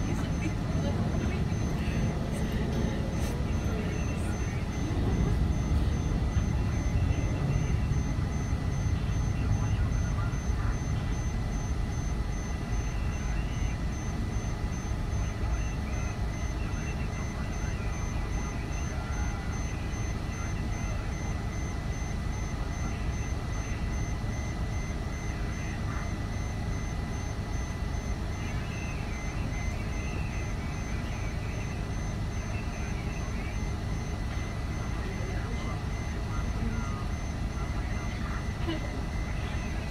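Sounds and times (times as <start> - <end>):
high-pitched whine: 0.0 - 39.9
muffled airliner rumble: 0.0 - 39.9.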